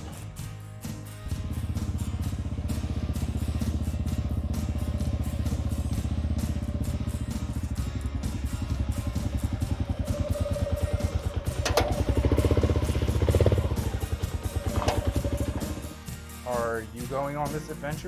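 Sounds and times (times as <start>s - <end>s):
go-kart engine puttering: 1.3s - 16.7s.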